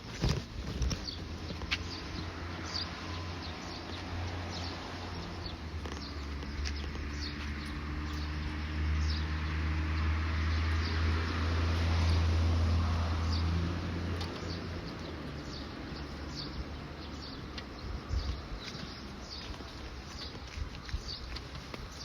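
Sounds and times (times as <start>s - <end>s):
vehicle engine hum and tyre noise: 0.0s - 22.0s.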